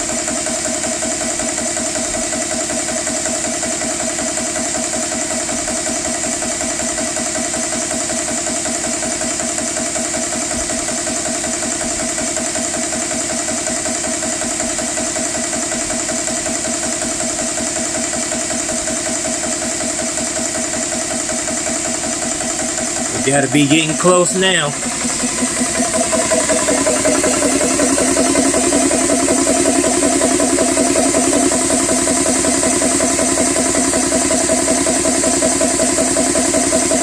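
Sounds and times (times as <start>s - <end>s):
air compressor pumping: 0.0s - 37.0s.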